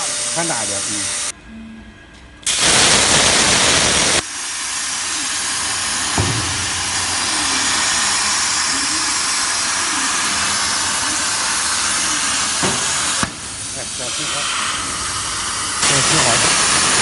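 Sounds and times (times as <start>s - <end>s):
plasma torch hissing: 0.0s - 1.3s, 2.4s - 17.0s.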